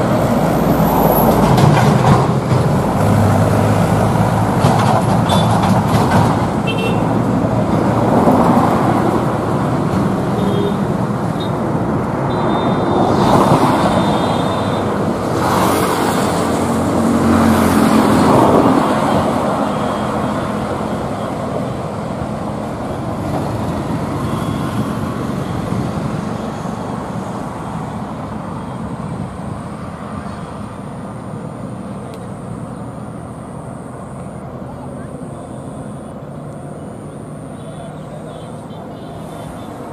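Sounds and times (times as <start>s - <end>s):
traffic rumble: 0.0s - 39.9s.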